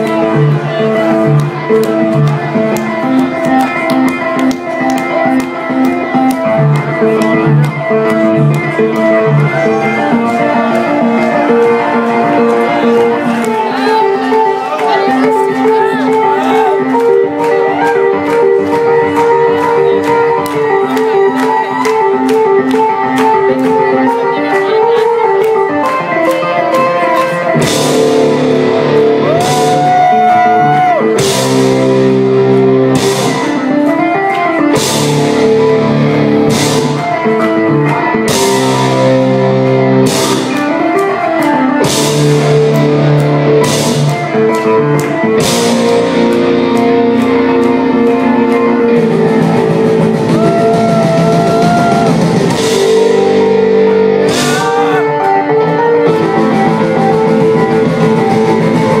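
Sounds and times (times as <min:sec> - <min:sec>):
heavy rock band playing: 0:00.0 - 0:59.0.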